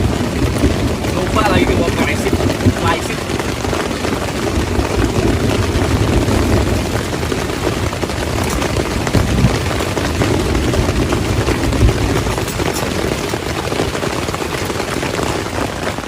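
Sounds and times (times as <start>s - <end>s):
rain on a tent: 0.0s - 16.0s.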